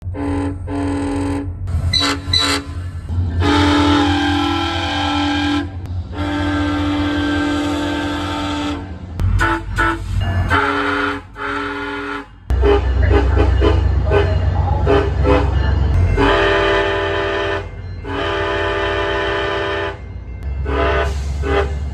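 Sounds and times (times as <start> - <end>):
low train rumble: 0.0 - 21.9
train air horn blasts: 0.0 - 21.9.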